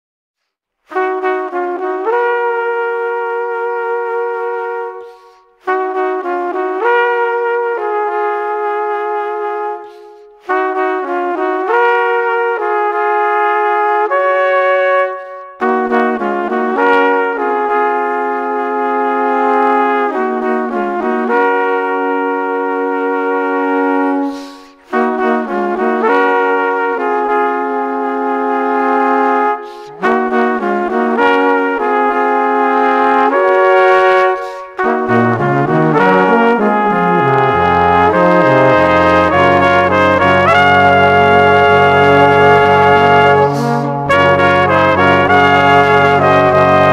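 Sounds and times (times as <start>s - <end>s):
brass-like melody: 0.8s - 46.9s.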